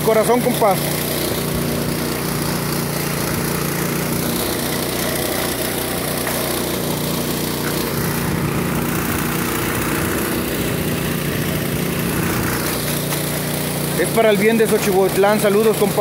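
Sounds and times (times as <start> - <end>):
small pump engine running: 0.0 - 16.0.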